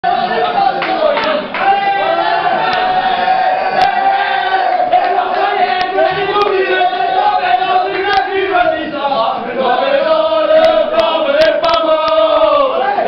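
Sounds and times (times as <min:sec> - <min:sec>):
men chanting in unison: 0:00.1 - 0:13.0.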